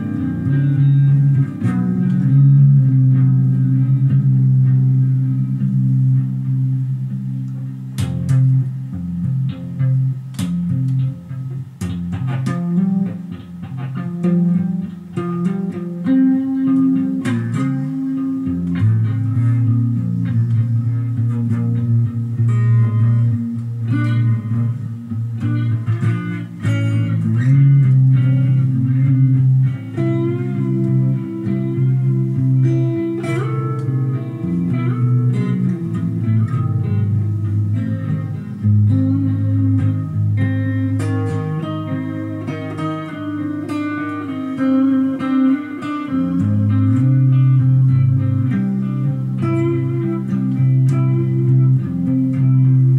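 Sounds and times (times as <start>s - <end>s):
solo guitar playing: 0.0s - 52.9s.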